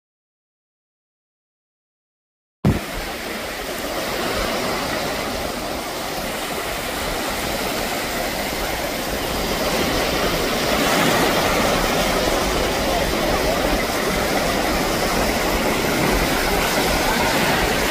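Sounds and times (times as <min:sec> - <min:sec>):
surf on a beach: 0:02.6 - 0:17.9
wind rumbling on microphone: 0:02.6 - 0:17.9.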